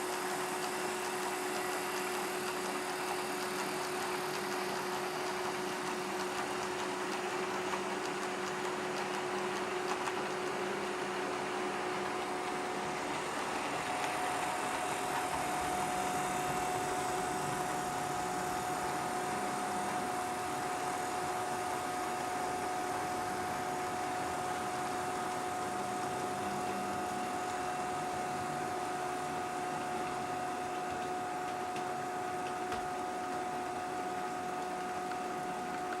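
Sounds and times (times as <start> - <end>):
model train running hum: 0.0 - 36.0.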